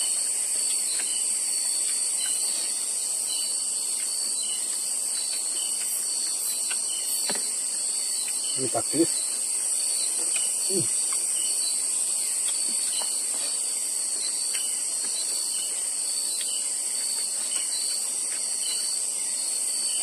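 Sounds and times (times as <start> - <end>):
crickets and insects chorus: 0.0 - 20.0.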